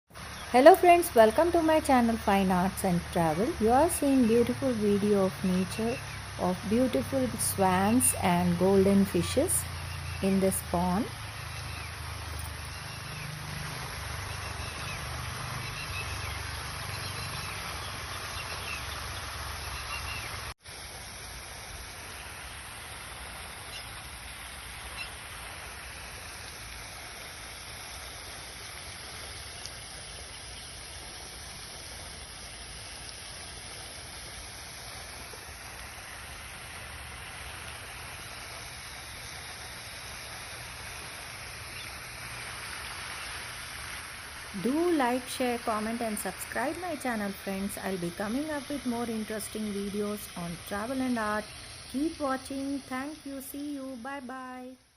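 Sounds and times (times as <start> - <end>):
hiss of water: 0.2 - 53.8.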